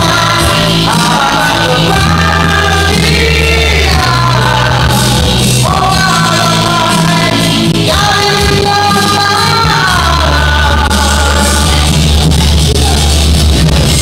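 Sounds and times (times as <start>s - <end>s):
man singing into microphone: 0.0s - 13.2s
backing music: 0.0s - 14.0s.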